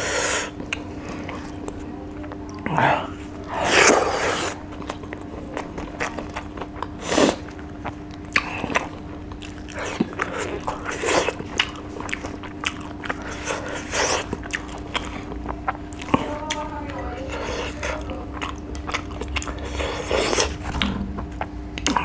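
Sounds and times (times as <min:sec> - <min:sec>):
chewing with wet clicks: 0:00.6 - 0:03.4, 0:04.5 - 0:22.0.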